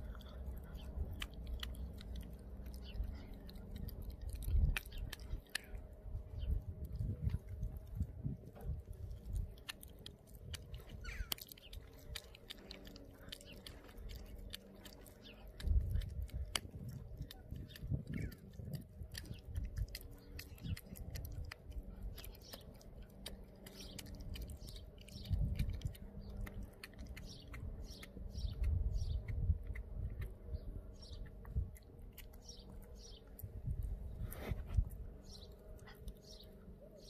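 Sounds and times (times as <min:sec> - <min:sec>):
dog chewing a bone: 0:00.0 - 0:36.6.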